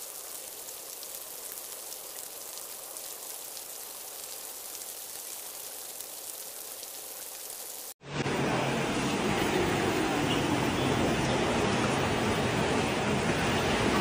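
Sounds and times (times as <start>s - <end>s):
rain falling on water: 0.0s - 14.0s.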